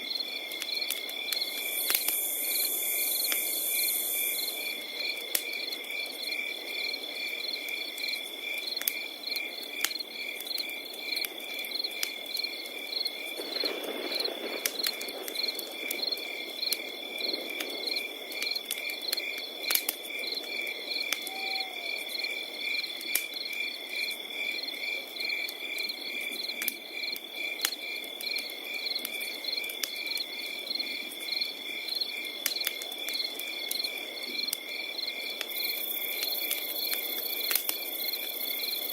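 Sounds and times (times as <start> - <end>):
crickets chirping: 0.0 - 38.9
wood fire crackling and popping: 0.0 - 38.9.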